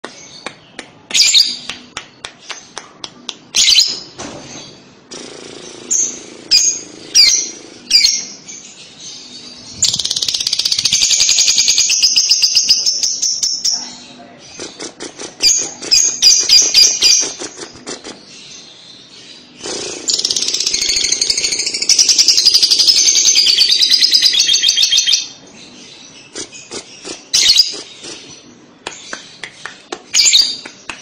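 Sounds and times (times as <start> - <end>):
lovebird chirping and chattering: 5.2 - 30.6.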